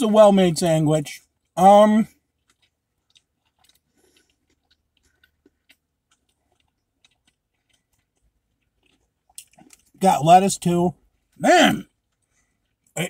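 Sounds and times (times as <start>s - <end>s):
faint chewing of food: 1.1s - 10.0s, 10.9s - 13.0s.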